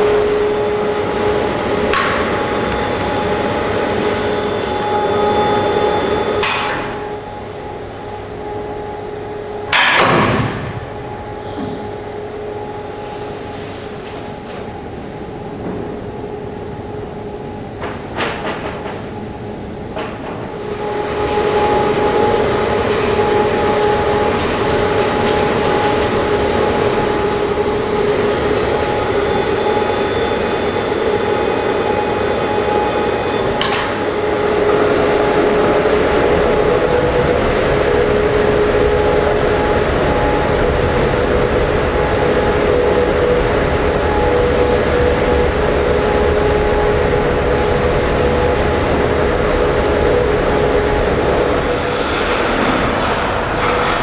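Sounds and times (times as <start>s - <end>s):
rail trolley machine whine: 0.0s - 54.0s.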